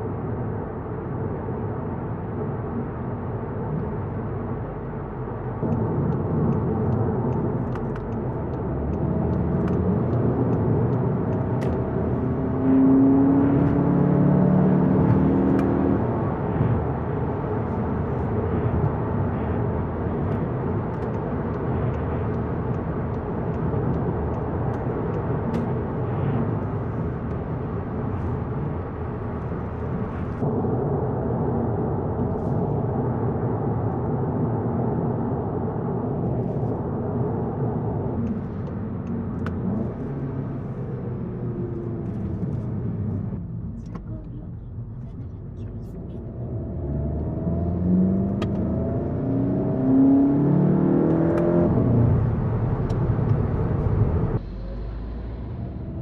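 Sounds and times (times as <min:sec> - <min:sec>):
road and tyre rumble: 0:00.0 - 0:56.0.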